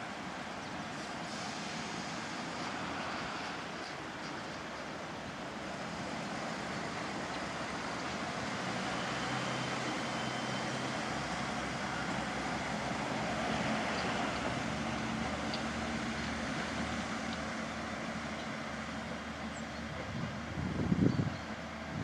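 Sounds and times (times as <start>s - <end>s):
diesel railcar engine droning: 0.0s - 22.0s.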